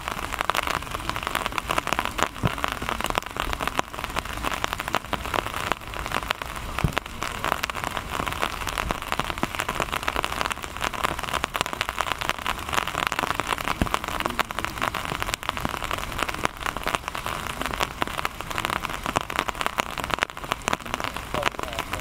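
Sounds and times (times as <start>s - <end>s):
raindrops ticking close by: 0.0s - 22.0s
steady rain pattering: 0.0s - 22.0s.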